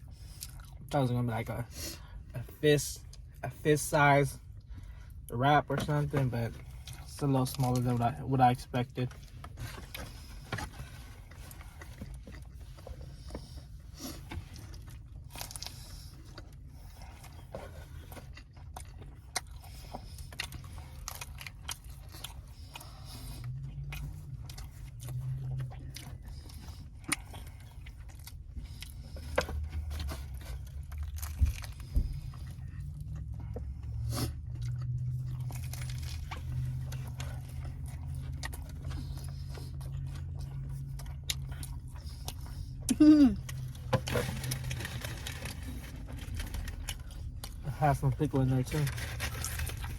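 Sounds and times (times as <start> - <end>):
person chewing food: 0.0 - 1.0, 2.0 - 49.9.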